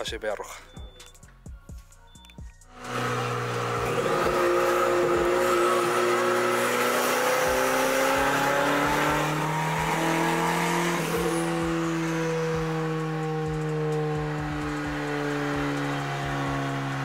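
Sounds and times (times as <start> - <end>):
turbocharged engine under full load: 2.7 - 17.0.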